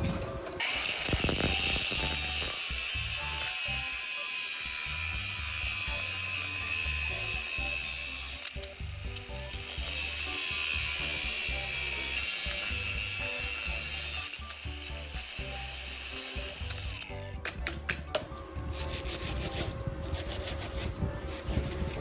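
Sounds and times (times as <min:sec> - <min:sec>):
background music: 0:00.0 - 0:22.0
tool rasping on steel: 0:00.6 - 0:17.2, 0:18.6 - 0:22.0.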